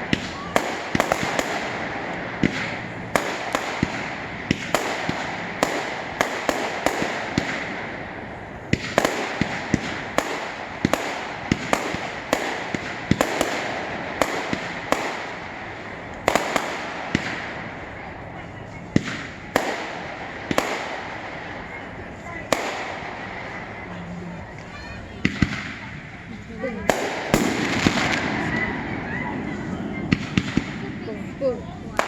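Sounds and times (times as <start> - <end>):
fireworks bangs: 0.0 - 32.0
fireworks crackle and hiss: 0.0 - 32.0.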